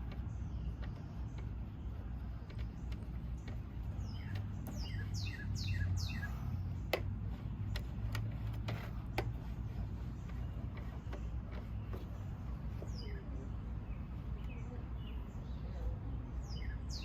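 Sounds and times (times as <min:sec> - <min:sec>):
bird chirping: 0:00.0 - 0:17.0
low steady rumble: 0:00.0 - 0:17.0.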